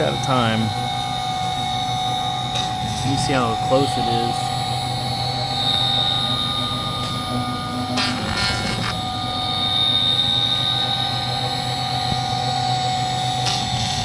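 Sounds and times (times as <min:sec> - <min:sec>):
cnc router spindle whining: 0:00.0 - 0:14.0.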